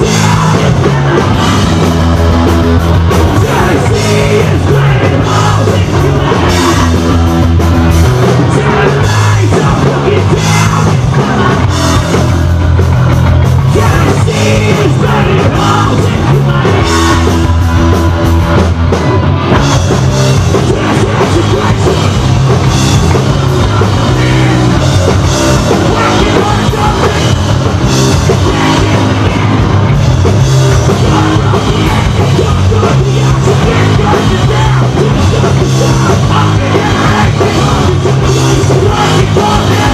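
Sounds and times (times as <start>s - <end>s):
punk band playing: 0.0s - 39.9s.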